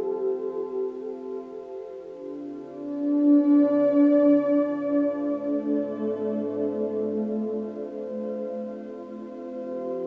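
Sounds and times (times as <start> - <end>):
ambient music with ringing tones: 0.0 - 10.0.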